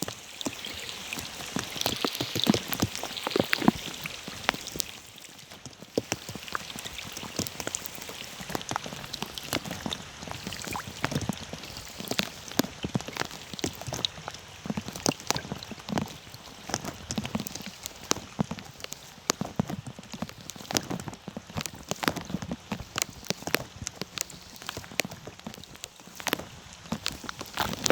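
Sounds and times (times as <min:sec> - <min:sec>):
raindrops plinking on water: 0:00.0 - 0:27.9
steady rain patter: 0:00.0 - 0:27.9.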